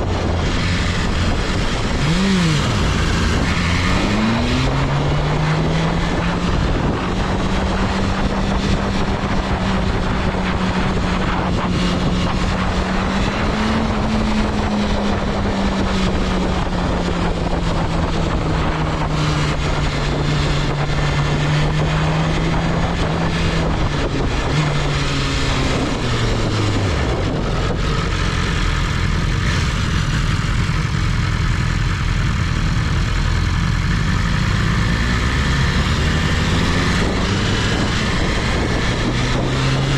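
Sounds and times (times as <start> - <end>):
heavy wind noise: 0.0 - 39.9
motorcycle engine cruising: 0.0 - 39.9
road noise: 0.0 - 39.9.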